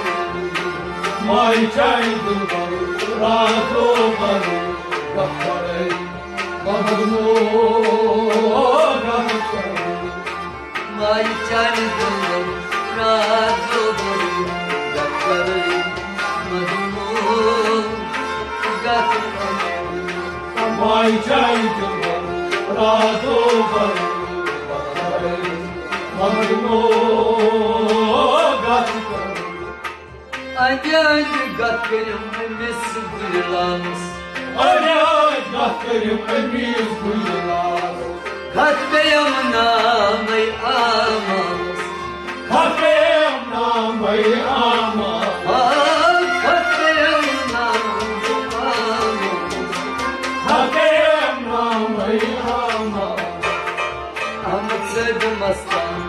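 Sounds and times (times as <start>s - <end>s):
man singing: 0.0s - 29.8s, 30.4s - 56.0s
hand drum rhythm: 0.0s - 56.0s
harmonium: 0.0s - 56.0s
plucked strings: 0.0s - 56.0s.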